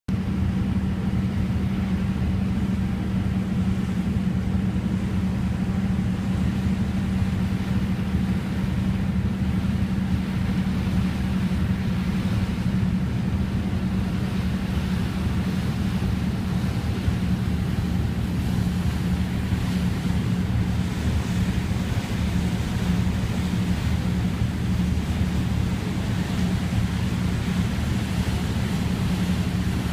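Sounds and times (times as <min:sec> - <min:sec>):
boat engine running: 0:00.1 - 0:29.9
constant rushing noise: 0:00.1 - 0:29.9.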